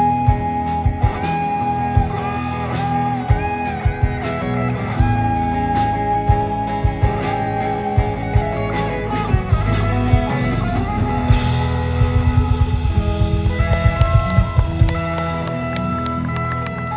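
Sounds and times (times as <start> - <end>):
electric guitar solo: 0.0 - 16.9
live rock band playing: 0.0 - 16.9.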